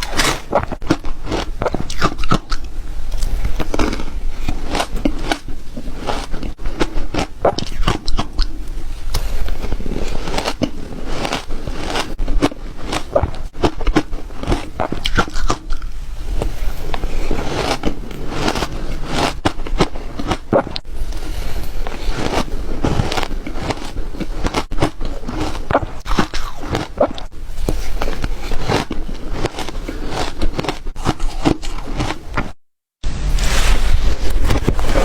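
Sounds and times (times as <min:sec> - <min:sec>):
ice being bitten and crunched: 0:00.0 - 0:32.6.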